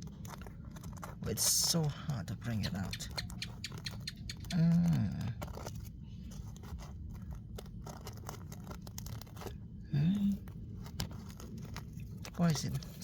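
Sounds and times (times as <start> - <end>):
soil scraped by hand: 0.0 - 13.0.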